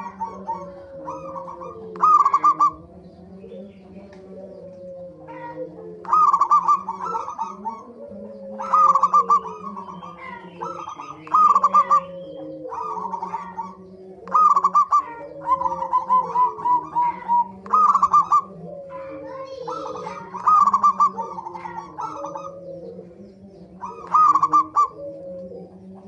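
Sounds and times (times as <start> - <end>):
doves cooing: 0.0 - 26.0
other birds calling: 0.0 - 26.0.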